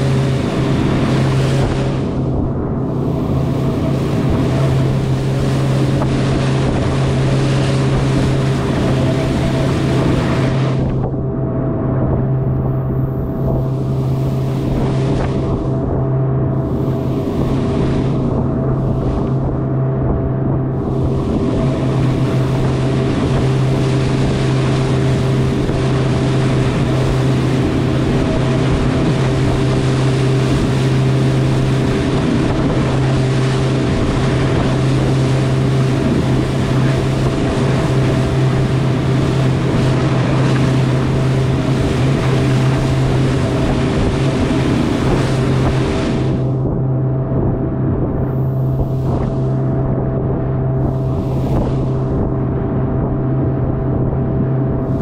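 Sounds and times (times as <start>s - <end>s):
motorboat engine drone: 0.0s - 55.0s.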